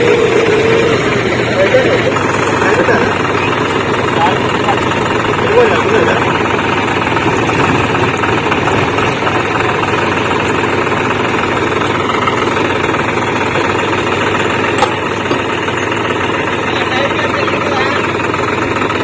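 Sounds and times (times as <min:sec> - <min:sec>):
tractor diesel engines running: 0:00.0 - 0:19.0.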